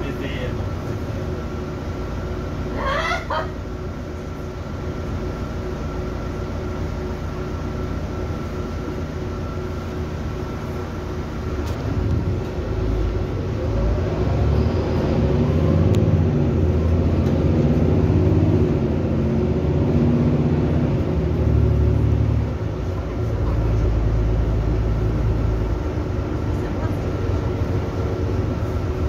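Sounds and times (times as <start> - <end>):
bus engine and road rumble: 0.0 - 29.0
rising engine whine: 0.0 - 29.0.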